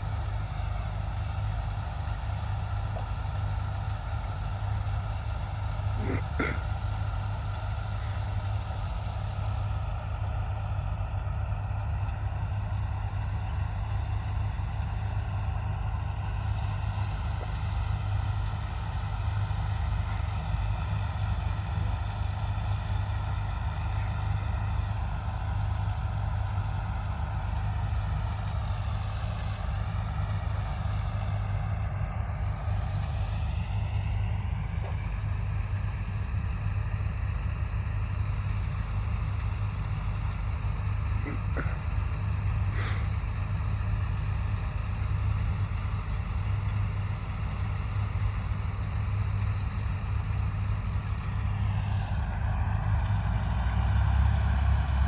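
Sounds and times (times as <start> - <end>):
large diesel engine droning: 0.0 - 55.0.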